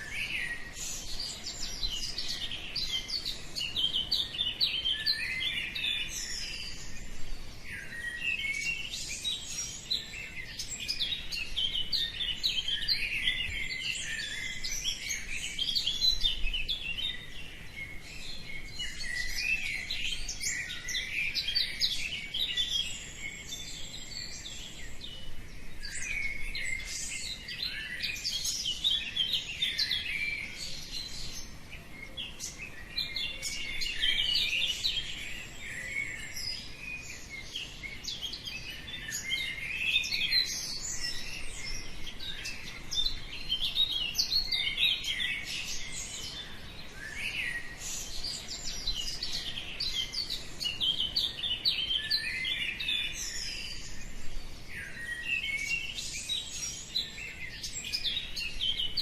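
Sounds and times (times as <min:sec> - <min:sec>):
songbirds dawn chorus: 0:00.0 - 0:59.0.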